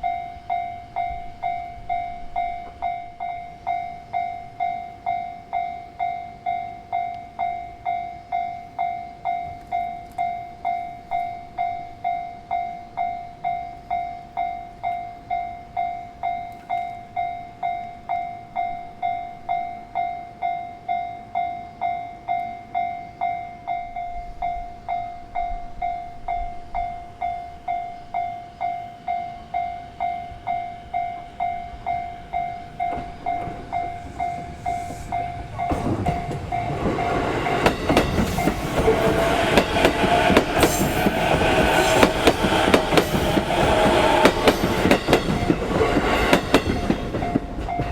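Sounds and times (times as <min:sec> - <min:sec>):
approaching train: 0:00.0 - 0:47.9.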